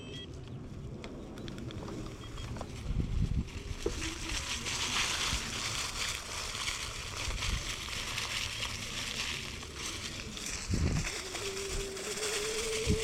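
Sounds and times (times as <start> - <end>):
tyres rolling over dry leaves: 0.6 - 13.0.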